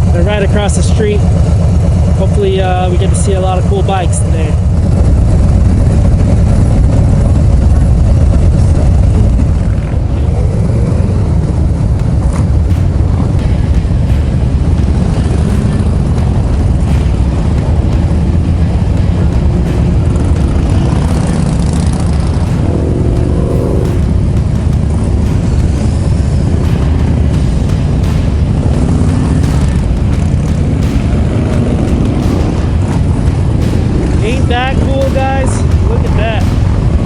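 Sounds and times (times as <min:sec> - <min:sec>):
motorcycle engine running: 0:00.0 - 0:37.0
road and wind noise: 0:00.0 - 0:37.0.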